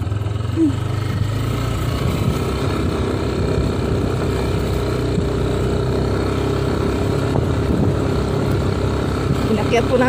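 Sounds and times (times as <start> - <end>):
scooter engine running: 0.0 - 10.0.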